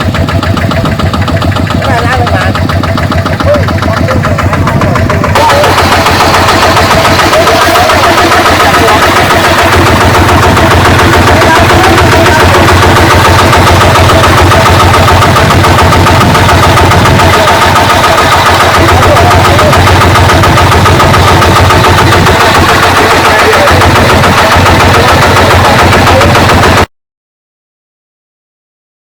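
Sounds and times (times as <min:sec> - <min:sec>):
diesel engine chugging: 0:00.0 - 0:26.9.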